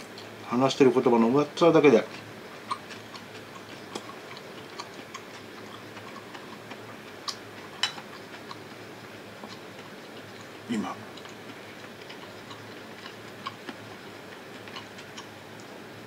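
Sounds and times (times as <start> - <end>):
eating mouth sounds: 2.1 - 8.8, 9.4 - 15.8.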